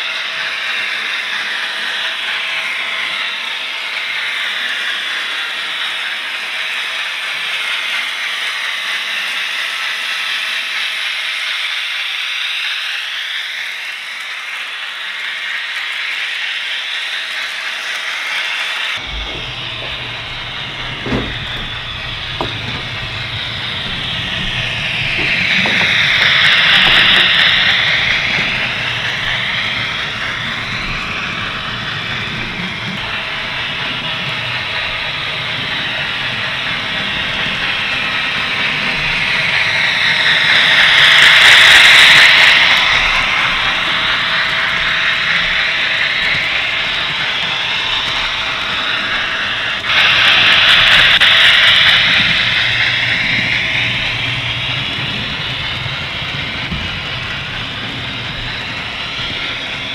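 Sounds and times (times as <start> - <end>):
model train motor whine: 0.0 - 59.9
wheels rolling on rails: 0.0 - 59.9.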